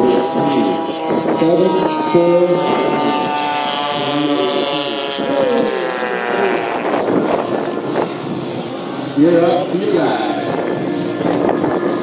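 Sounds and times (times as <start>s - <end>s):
model plane engines droning: 0.0s - 12.0s
rush of noise: 0.0s - 12.0s.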